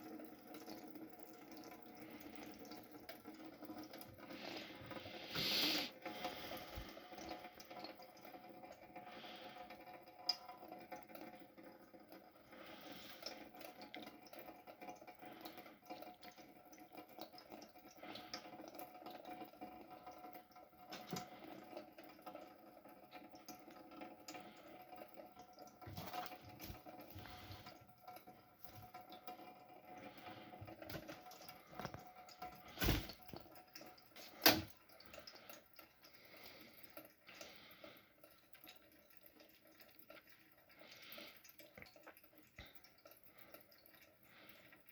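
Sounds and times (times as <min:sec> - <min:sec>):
tap water trickling into basin: 0:00.0 - 0:44.9.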